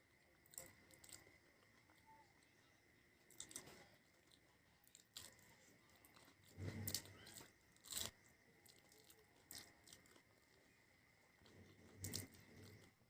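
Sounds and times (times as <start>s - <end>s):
crunchy chewing of snack food: 0.0s - 13.0s.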